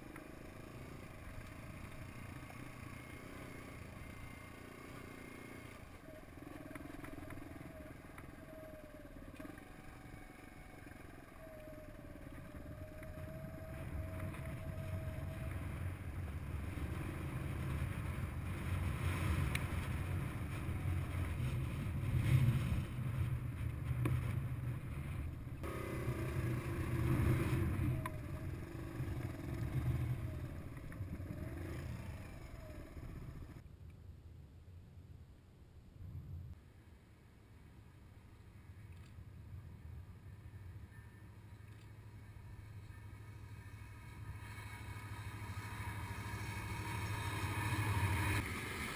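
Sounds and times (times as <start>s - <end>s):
dirt bike engine running: 0.0s - 33.6s, 42.0s - 48.9s.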